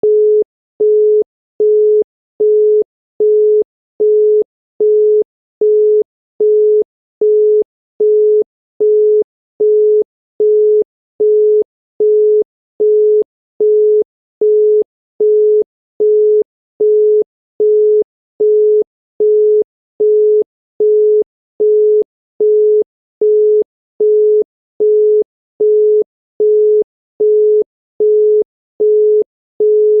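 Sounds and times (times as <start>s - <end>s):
telephone busy tone beeping: 0.0s - 30.0s.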